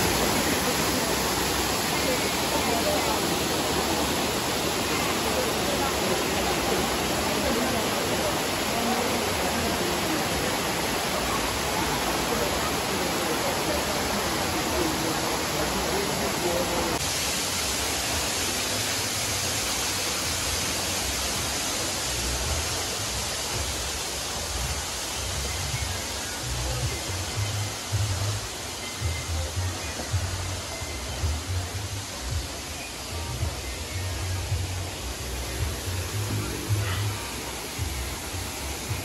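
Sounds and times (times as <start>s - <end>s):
waterfall rushing onto rock: 0.0s - 39.0s.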